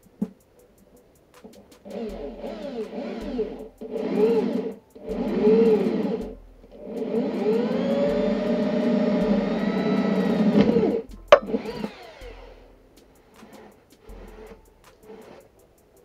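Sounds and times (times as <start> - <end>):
electric drill boring wood: 1.9 - 12.7, 13.4 - 15.5.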